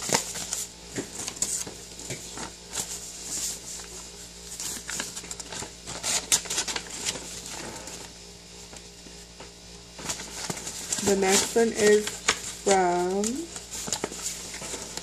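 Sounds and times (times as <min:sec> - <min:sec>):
packaging rustling and crinkling: 0:00.0 - 0:08.1, 0:10.0 - 0:15.0.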